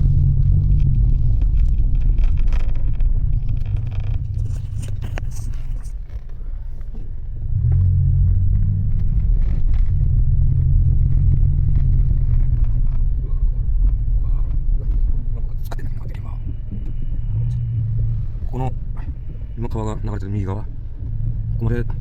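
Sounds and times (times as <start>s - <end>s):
vehicle rumble inside cabin: 0.0s - 22.0s.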